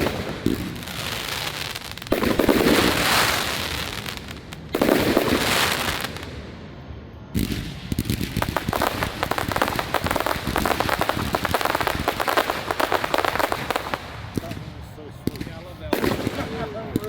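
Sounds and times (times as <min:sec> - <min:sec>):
firework crackling pops: 0:00.0 - 0:06.4, 0:07.3 - 0:17.0
firework bursts: 0:00.0 - 0:06.7, 0:07.3 - 0:17.0.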